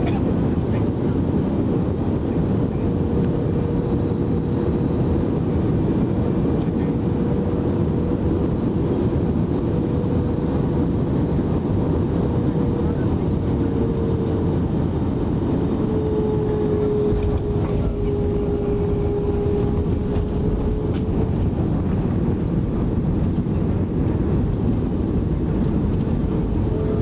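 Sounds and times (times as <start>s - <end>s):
deep rumble of wheels on runway: 0.0s - 27.0s
rush of engines and airflow: 0.0s - 27.0s.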